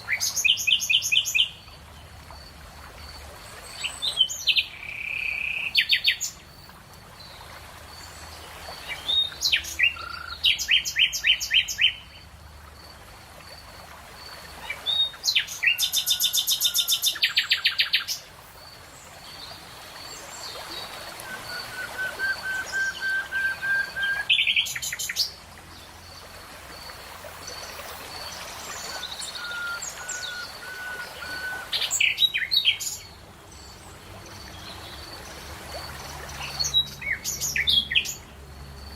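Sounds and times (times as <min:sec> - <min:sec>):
songbirds singing: 0:03.5 - 0:07.5, 0:08.1 - 0:12.4, 0:14.6 - 0:35.4, 0:36.1 - 0:38.9.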